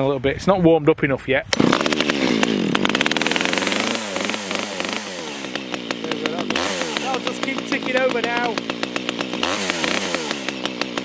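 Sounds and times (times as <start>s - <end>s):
chainsaw engine revving unevenly: 1.5s - 11.0s.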